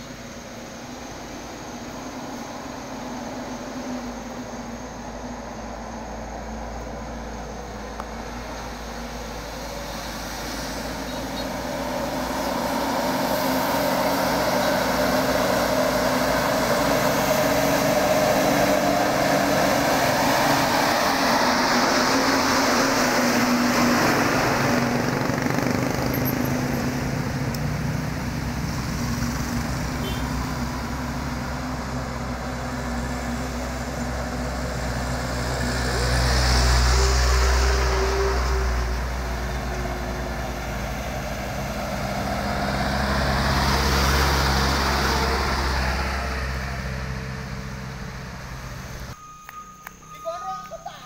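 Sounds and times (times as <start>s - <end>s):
tyres hissing on wet road: 0.0s - 49.1s
second truck engine approaching: 0.0s - 51.0s.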